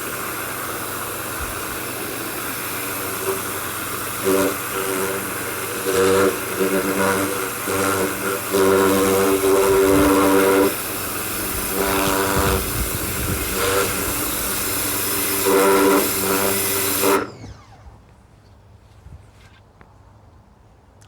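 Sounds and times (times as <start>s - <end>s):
water jet hissing: 0.0s - 17.4s
pressure washer motor humming: 0.0s - 18.1s.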